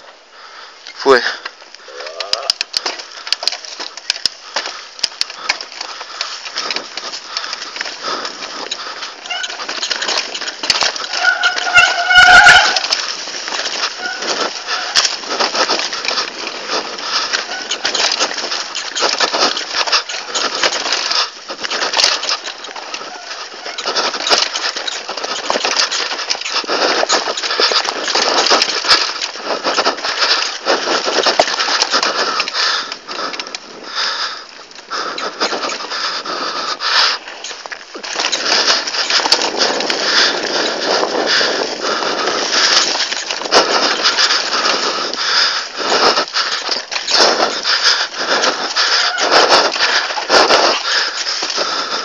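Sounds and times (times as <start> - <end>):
bike clattering over bumps: 0.8 - 52.0
tyres rolling over dirt and stones: 0.9 - 52.0.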